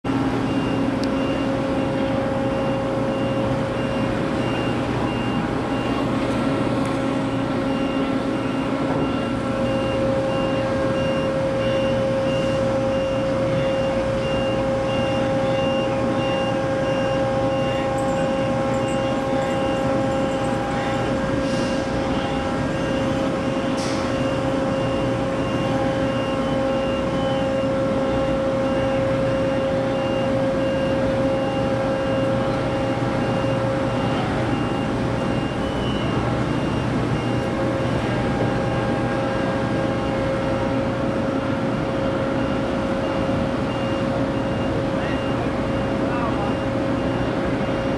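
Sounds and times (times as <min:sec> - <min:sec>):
crane machinery droning hum: 0:00.1 - 0:47.9
warning beeper: 0:07.2 - 0:47.9.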